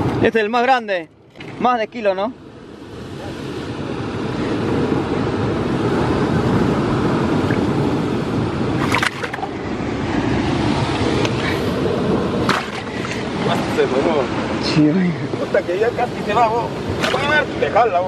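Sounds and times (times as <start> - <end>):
sea surf washing over rocks: 1.5 - 18.0.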